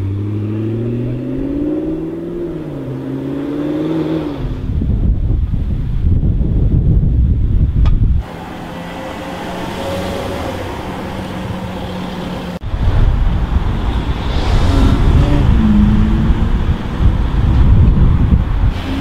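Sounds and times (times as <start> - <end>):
car engine in traffic: 0.0 - 6.1, 6.8 - 19.0.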